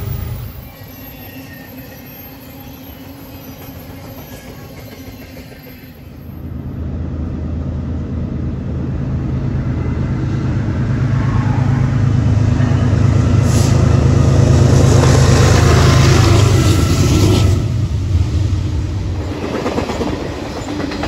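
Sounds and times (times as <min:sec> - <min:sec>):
diesel locomotive engines droning: 0:00.0 - 0:21.0
train wheels rumbling on rails: 0:00.0 - 0:21.0.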